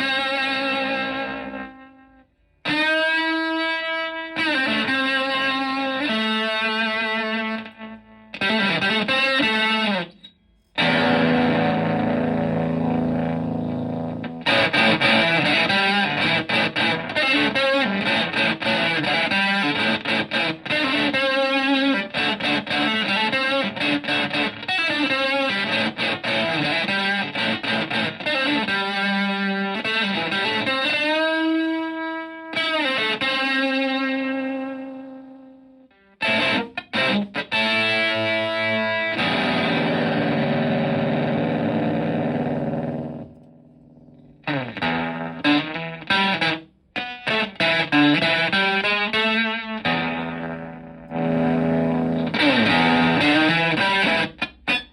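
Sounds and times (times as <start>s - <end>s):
fuzzed electric guitar riffs: 0.0s - 54.9s.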